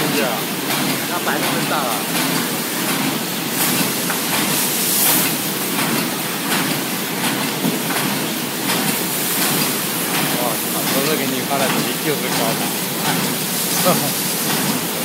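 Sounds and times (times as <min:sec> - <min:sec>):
machine clacking strokes: 0:00.0 - 0:15.0
packing machines running: 0:00.0 - 0:15.0.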